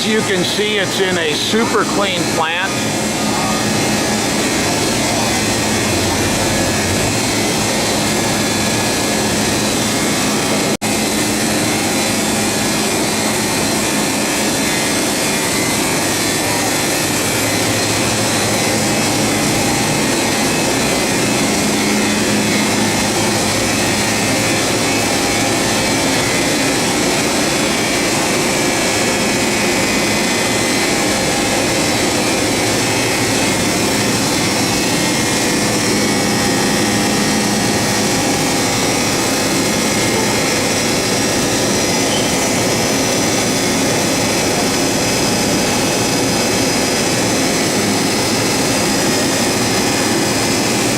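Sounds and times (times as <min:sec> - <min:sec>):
industrial machinery whirring: 0:00.0 - 0:50.9.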